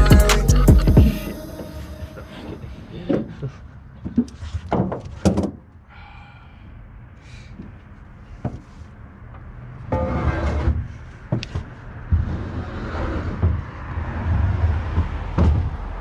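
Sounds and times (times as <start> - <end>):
person moving on truck bed: 1.0 - 5.8, 7.3 - 16.0.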